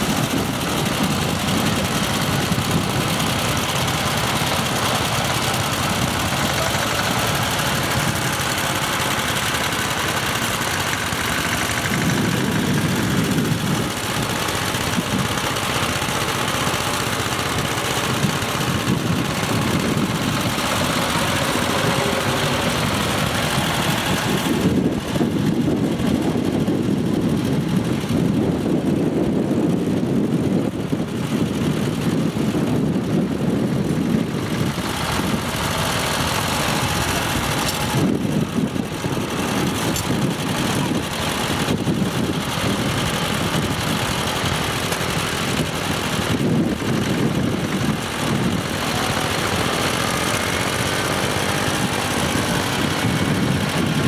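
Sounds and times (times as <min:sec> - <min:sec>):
walking tractor engine running: 0:00.0 - 0:54.0.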